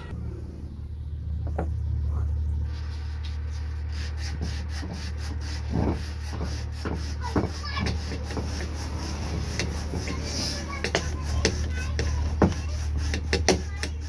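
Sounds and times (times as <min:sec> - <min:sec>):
steady low hum: 0:00.0 - 0:14.0
hand scraping metal parts: 0:02.7 - 0:14.0.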